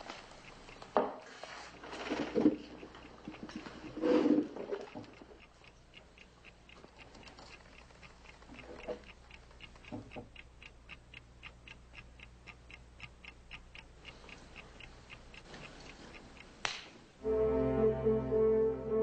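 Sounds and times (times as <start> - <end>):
watch ticking: 0.0 - 17.2.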